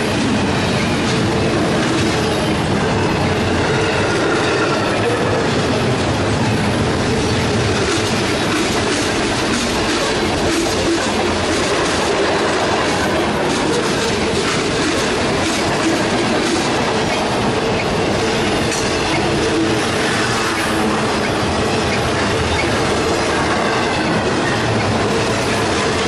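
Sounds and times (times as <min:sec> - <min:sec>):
freight train rumbling past: 0:00.0 - 0:26.0
wheels clicking over rail joints: 0:04.2 - 0:26.0.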